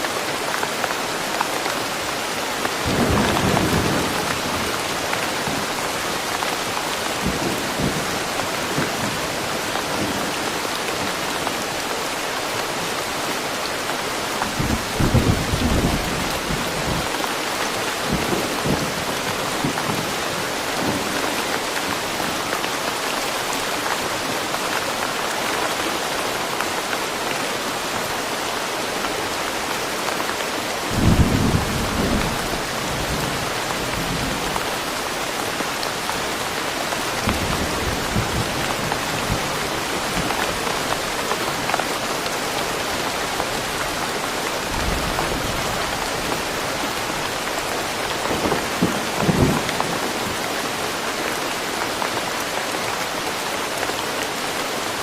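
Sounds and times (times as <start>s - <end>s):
heavy rain in woodland: 0.0s - 55.0s.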